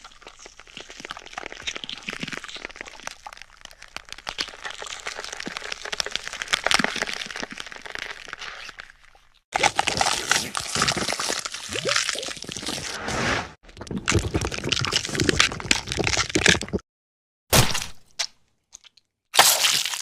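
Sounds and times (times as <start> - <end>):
bones crunching and cracking: 0.0 - 12.9, 13.6 - 16.8, 17.5 - 20.0.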